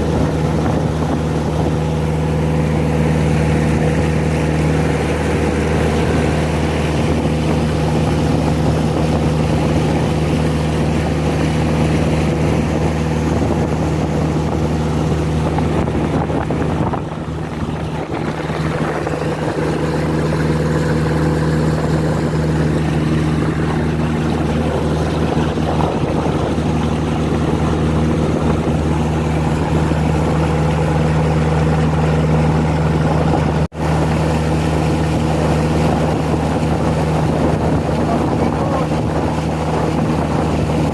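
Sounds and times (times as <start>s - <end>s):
boat engine drone: 0.0s - 40.9s
rushing water: 0.0s - 40.9s.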